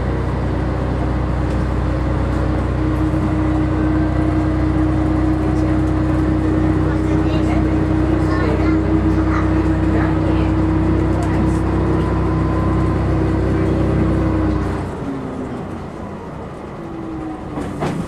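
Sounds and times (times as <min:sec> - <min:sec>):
diesel engine drone: 0:00.0 - 0:18.0
rail running noise: 0:00.0 - 0:18.0.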